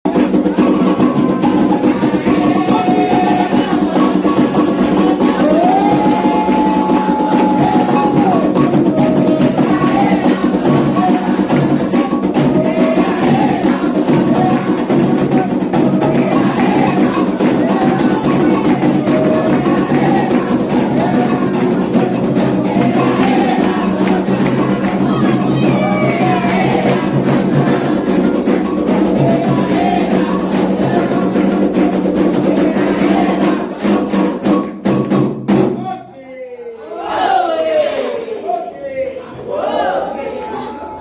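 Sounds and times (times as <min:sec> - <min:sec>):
hand drums beating fast: 0:00.0 - 0:35.8
group singing a chant: 0:00.1 - 0:41.0.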